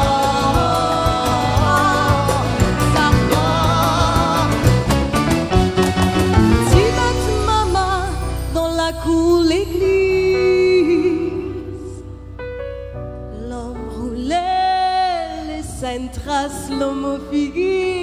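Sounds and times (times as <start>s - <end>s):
woman singing: 0.0s - 5.0s, 6.6s - 12.1s, 13.3s - 18.0s
electric keyboard chords: 0.0s - 15.2s.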